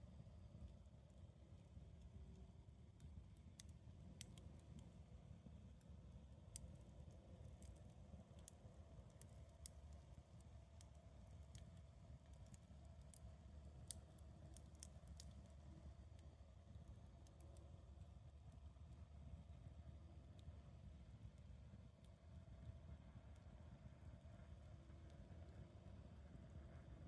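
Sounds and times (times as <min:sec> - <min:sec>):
low steady rumble: 0:00.0 - 0:27.0
campfire crackling: 0:00.6 - 0:25.8.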